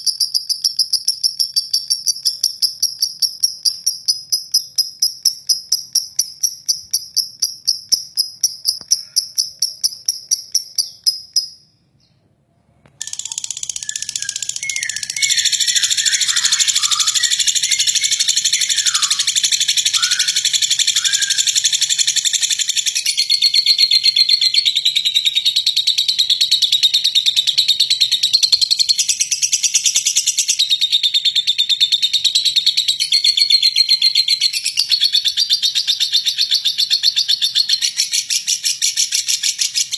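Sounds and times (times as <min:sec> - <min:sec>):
lovebird chattering trill: 0:00.0 - 0:11.6, 0:13.0 - 0:39.9
rapid high chirping: 0:00.0 - 0:11.7, 0:13.0 - 0:39.9.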